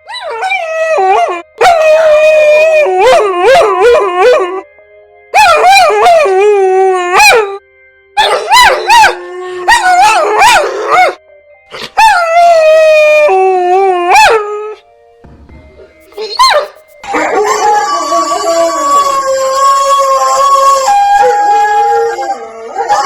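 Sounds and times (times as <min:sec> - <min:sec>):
dogs howling: 0:00.0 - 0:04.6, 0:05.4 - 0:07.6, 0:08.2 - 0:14.8, 0:16.1 - 0:23.0.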